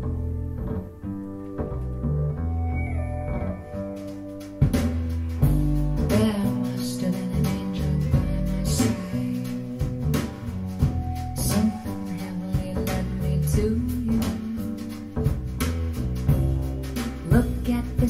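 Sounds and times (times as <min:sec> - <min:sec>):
guitar: 0:00.0 - 0:18.0
plucked bass notes: 0:00.0 - 0:18.0
pop-jazz song over speakers: 0:00.0 - 0:18.0.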